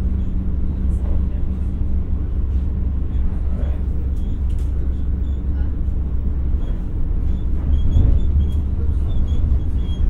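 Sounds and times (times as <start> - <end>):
constant train hum: 0.0 - 10.0
train wheels rumbling on rail: 0.0 - 10.0.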